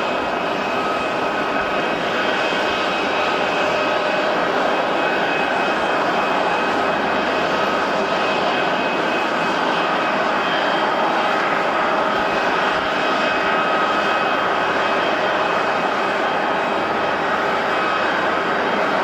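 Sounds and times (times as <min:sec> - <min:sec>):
high-pitched engine whine: 0:00.0 - 0:19.0
jet engines rushing: 0:00.0 - 0:19.0.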